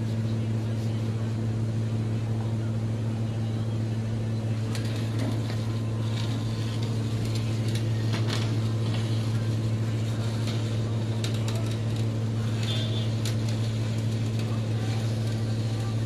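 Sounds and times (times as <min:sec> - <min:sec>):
machine motor humming: 0:01.3 - 0:16.0.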